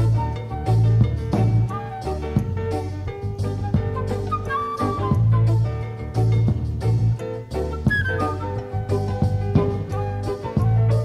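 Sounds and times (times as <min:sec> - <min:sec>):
driving bass line: 0:00.0 - 0:11.0
jazz fusion band playing: 0:00.0 - 0:11.0.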